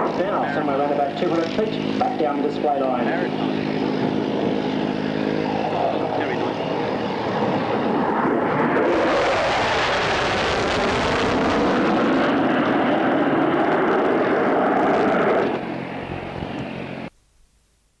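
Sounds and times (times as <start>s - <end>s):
aircraft engine low pass: 0.0s - 17.1s.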